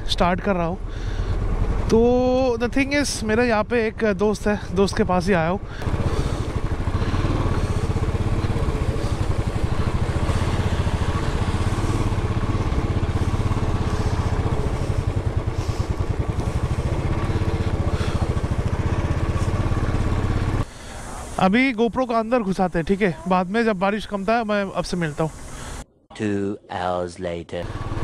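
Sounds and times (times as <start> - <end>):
motorcycle engine running: 0.0 - 25.8, 27.6 - 28.0.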